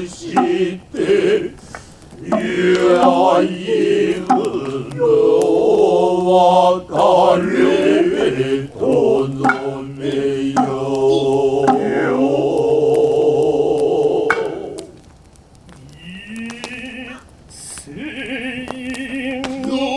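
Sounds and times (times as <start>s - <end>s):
men chanting: 0.0s - 15.1s, 15.8s - 19.9s.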